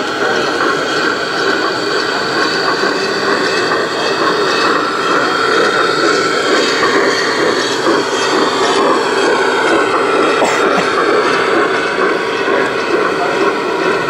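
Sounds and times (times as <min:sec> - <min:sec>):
model train running on track: 0:00.0 - 0:14.0.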